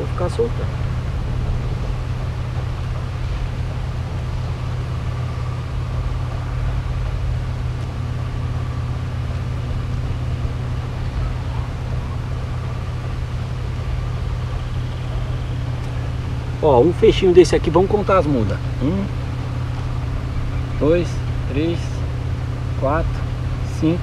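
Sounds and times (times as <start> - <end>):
faint high hum: 0.0 - 24.0
low rumble: 0.0 - 24.0.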